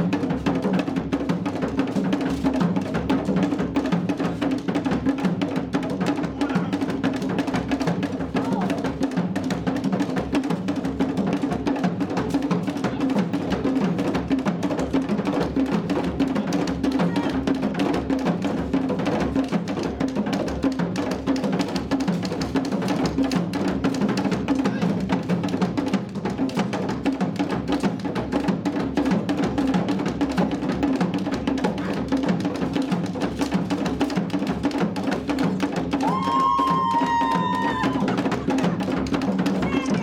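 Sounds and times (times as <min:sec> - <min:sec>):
hand drums playing fast rhythm: 0:00.0 - 0:40.0.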